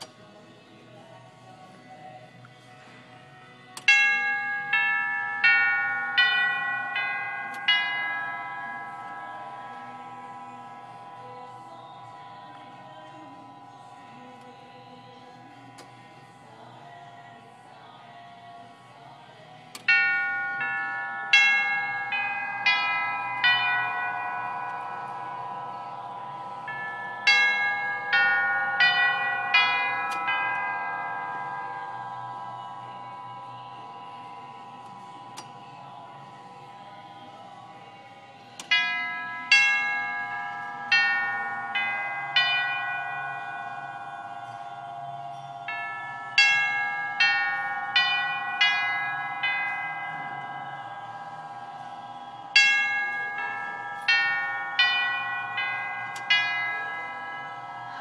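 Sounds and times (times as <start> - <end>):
grandfather clock chime bells: 3.8 - 58.0.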